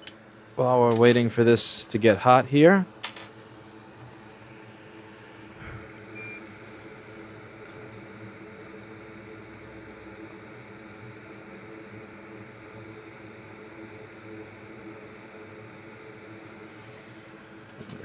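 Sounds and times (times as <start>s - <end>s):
hot air blower humming and hissing: 0.0s - 18.0s.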